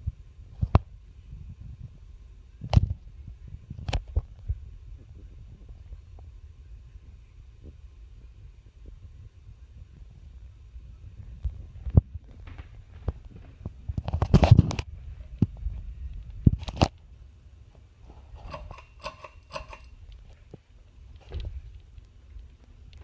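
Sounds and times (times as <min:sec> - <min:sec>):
ceiling fan rumbling: 0:00.0 - 0:23.0.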